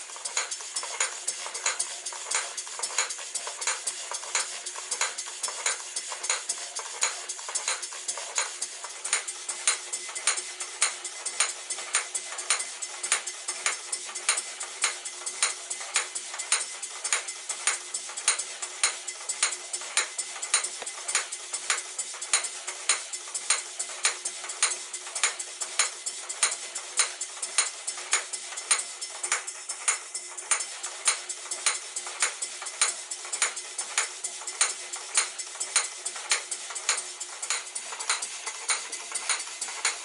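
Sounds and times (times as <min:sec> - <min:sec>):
mechanical clatter: 0:00.0 - 0:40.0
model steam engine running: 0:00.0 - 0:40.0.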